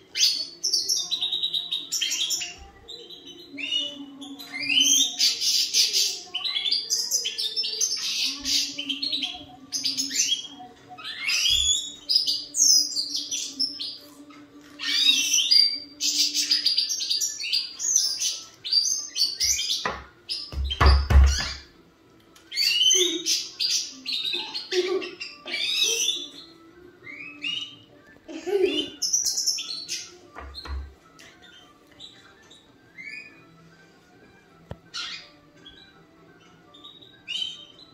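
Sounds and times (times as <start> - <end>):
goldfinch singing: 0.1 - 21.7, 22.5 - 33.5, 34.9 - 37.9.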